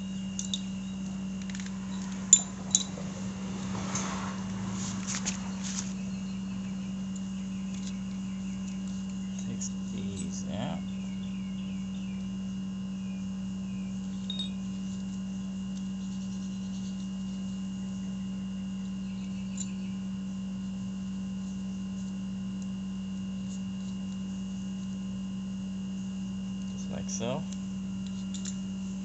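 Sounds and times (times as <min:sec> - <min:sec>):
high whine: 0:00.0 - 0:29.0
low hum: 0:00.0 - 0:29.0.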